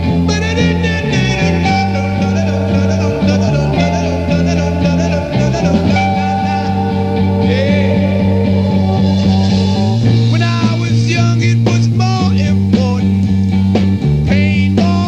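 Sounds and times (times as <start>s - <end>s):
psychedelic rock band playing: 0.0s - 15.0s
wavering lead guitar line: 0.0s - 15.0s.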